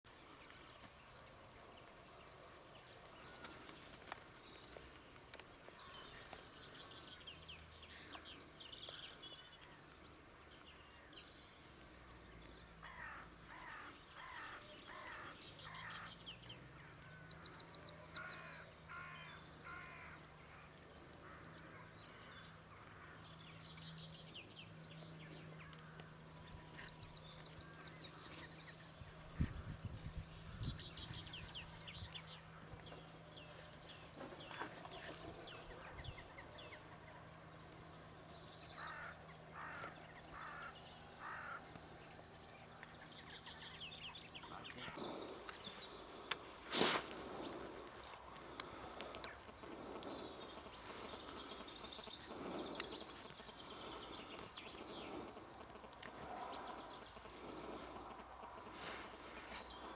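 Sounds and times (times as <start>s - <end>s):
birds singing and chirping: 0.1s - 59.9s
low repeated bird calls: 0.1s - 59.9s
low steady drone: 5.3s - 59.9s.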